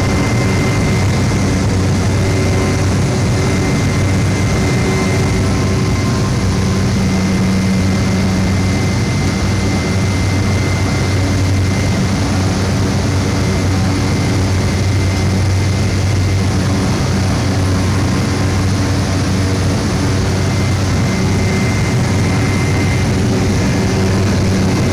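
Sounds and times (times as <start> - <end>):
high whine: 0.0 - 24.9
turboprop engine cabin drone: 0.0 - 24.9.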